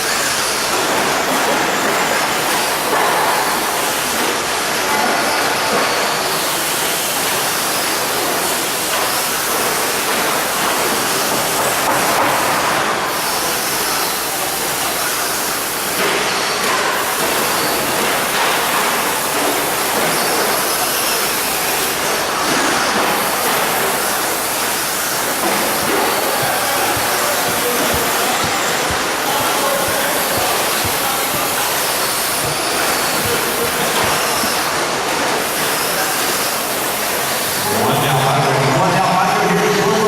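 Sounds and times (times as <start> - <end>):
rc trucks racing: 0.0 - 38.8.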